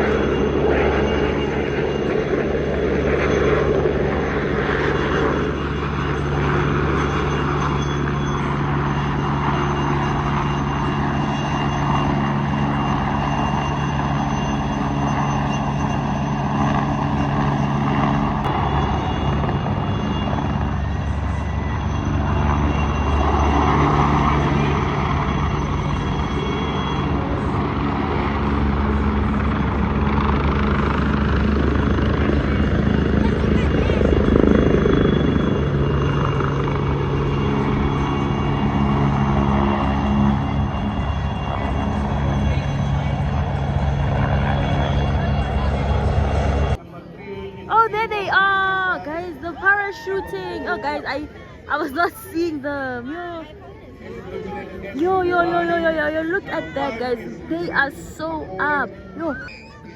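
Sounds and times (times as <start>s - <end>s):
aircraft engines droning overhead: 0.0s - 59.9s.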